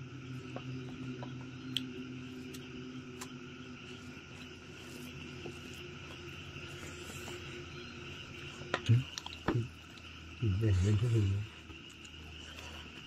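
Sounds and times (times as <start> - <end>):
crickets chirring: 0.0 - 13.0
low steady hum: 0.0 - 13.0.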